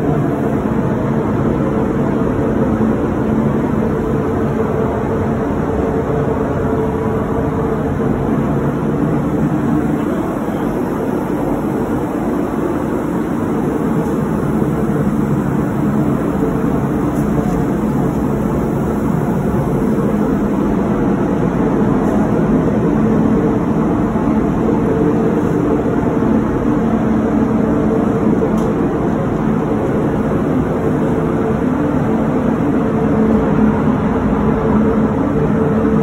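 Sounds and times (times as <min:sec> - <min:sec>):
ventilation fans rushing air: 0:00.0 - 0:36.0.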